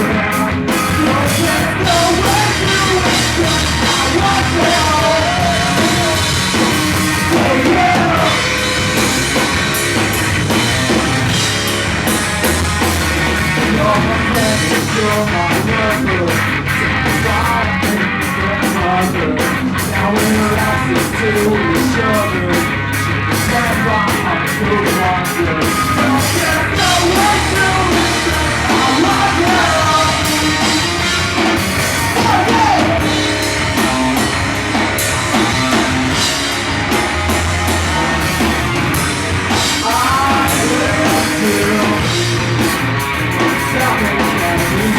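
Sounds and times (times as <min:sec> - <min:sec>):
man singing lead vocal: 0:00.0 - 0:09.1, 0:13.5 - 0:36.4, 0:39.5 - 0:42.8, 0:43.4 - 0:44.9
bass guitar: 0:00.0 - 0:44.9
distorted electric guitars: 0:00.0 - 0:44.9
drum kit: 0:00.0 - 0:44.9.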